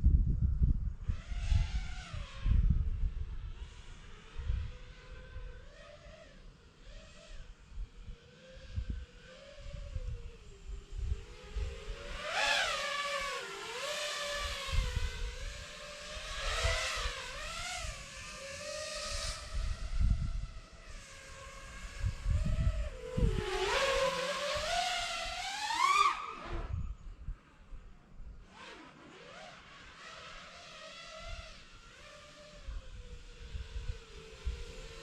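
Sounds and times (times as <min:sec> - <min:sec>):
quadcopter motors whining: 0:00.9 - 0:35.0.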